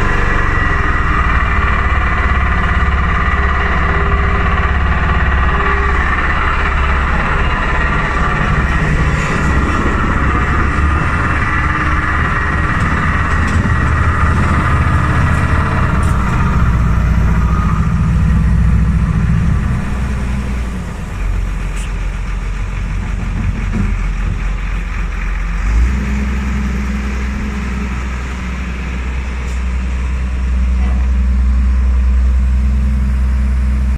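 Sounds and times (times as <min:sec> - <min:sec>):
road roller diesel engine humming: 0:00.0 - 0:33.9.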